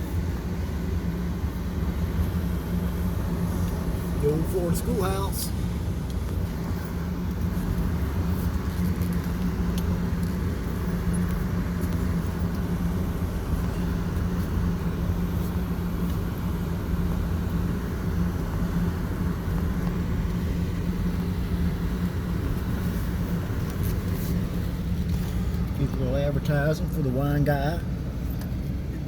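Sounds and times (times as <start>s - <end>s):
car engine hum from inside: 0.0s - 29.0s
road and tyre noise: 0.0s - 29.0s.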